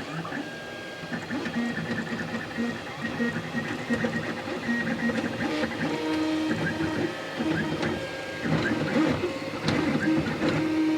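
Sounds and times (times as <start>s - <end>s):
three d printer motors whining: 0.0s - 10.9s.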